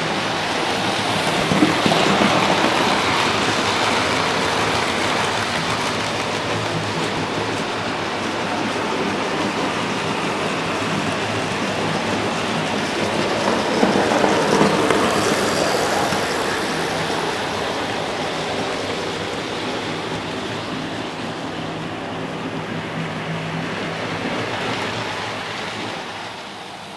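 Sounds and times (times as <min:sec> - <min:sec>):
model train rattling on track: 0:00.0 - 0:26.9.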